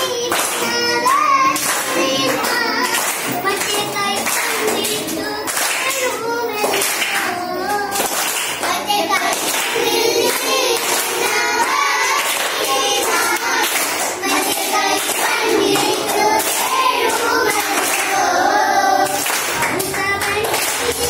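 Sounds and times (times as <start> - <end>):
children clapping hands: 0.0 - 21.0
children singing together: 0.0 - 21.0.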